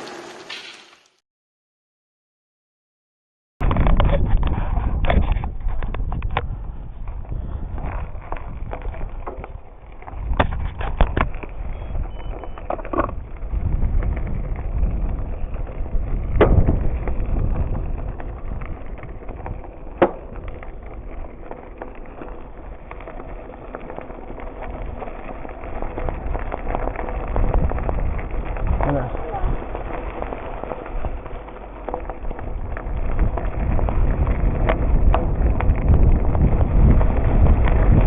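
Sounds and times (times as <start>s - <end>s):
bicycle rattling over bumps: 0.0s - 1.2s, 3.6s - 38.0s
wind on microphone: 3.6s - 21.3s, 24.6s - 31.4s, 32.0s - 38.0s.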